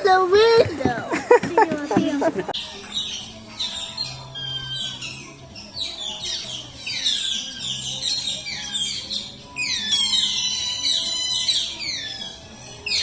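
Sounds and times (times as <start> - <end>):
otters chirping: 1.8 - 13.0.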